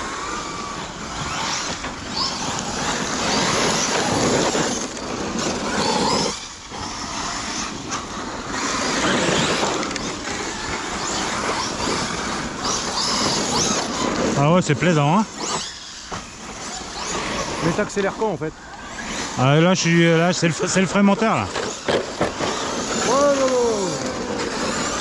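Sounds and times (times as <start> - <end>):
electric motor whine: 0.0 - 25.0
tyres churning dirt: 0.0 - 25.0.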